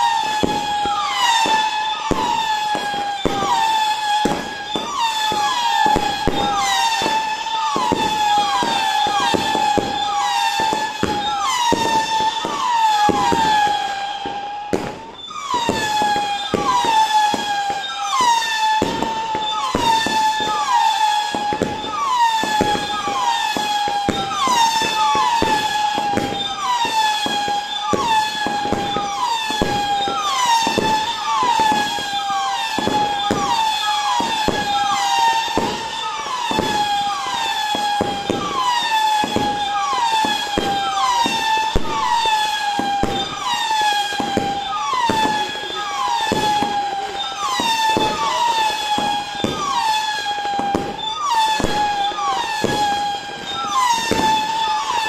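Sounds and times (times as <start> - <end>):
firework pops and bangs: 0.0 - 55.0
firework whistles: 0.0 - 55.0.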